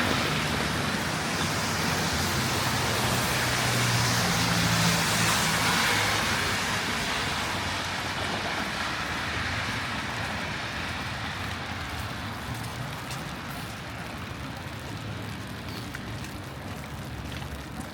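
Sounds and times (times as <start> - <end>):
tyres hissing on wet road: 0.0 - 17.8.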